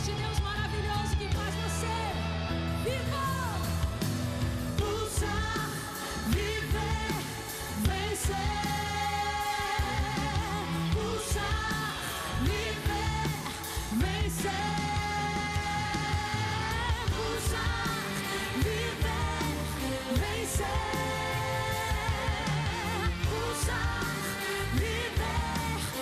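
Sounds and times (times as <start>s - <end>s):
band with drum beat: 2.8s - 26.0s
woman singing: 4.8s - 26.0s.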